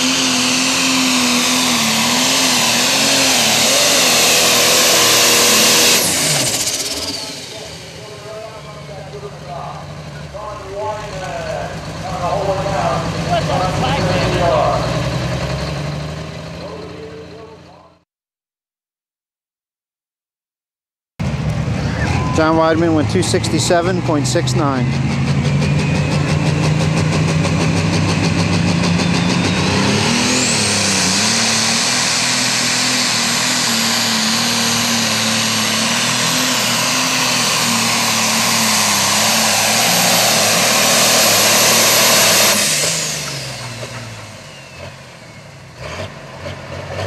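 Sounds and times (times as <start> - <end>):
high turbo whine: 0.0 - 17.9, 21.2 - 47.0
tractor diesel engine running hard: 0.0 - 18.0, 21.2 - 47.0.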